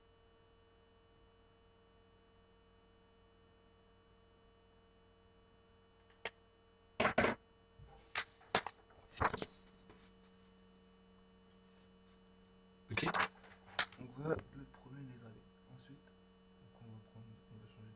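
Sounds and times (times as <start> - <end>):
faint mains hum: 0.0 - 17.9.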